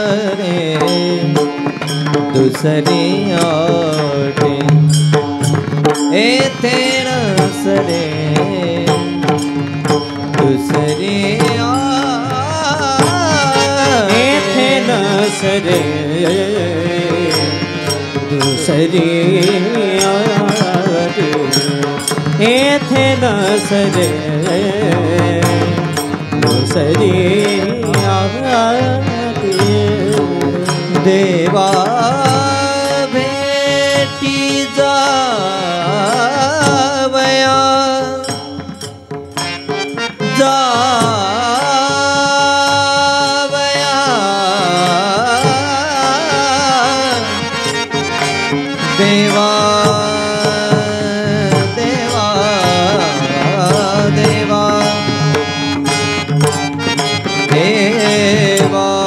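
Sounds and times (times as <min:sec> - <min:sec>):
men singing devotional song: 0:00.0 - 0:59.0.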